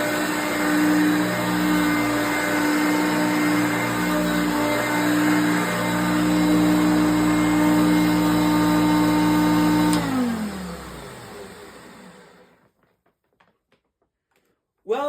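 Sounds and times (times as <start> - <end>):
vacuum cleaner motor whine: 0.0 - 12.7.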